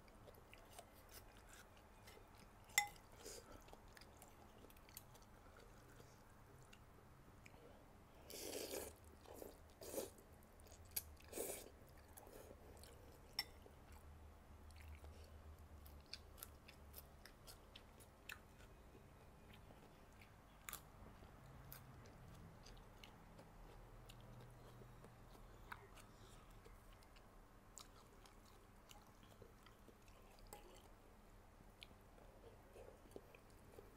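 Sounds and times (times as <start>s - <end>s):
quiet chewing: 0.0s - 33.9s.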